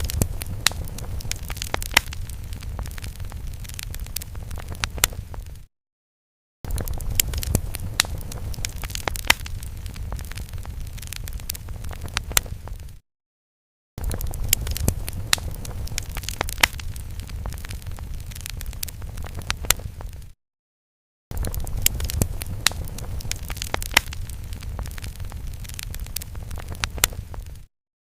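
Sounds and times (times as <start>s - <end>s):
fire crackling and popping: 0.0s - 5.7s, 6.7s - 13.0s, 14.0s - 20.4s, 21.3s - 27.7s.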